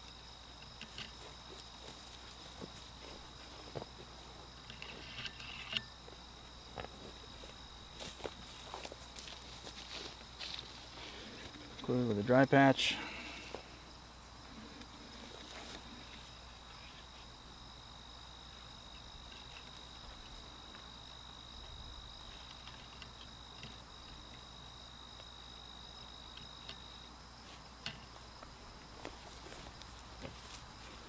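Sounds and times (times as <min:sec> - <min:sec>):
high-pitched insect trill: 0:00.0 - 0:31.0.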